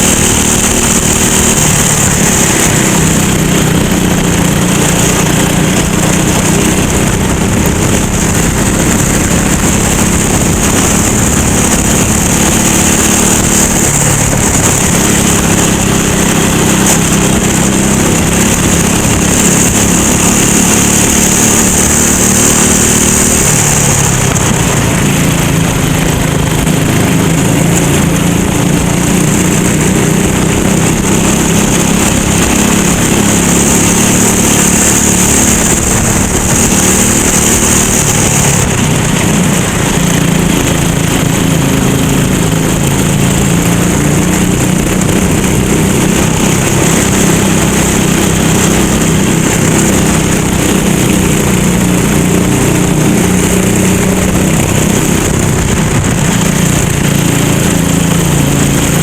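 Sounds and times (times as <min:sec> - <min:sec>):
go-kart engine racing: 0:00.0 - 0:59.0.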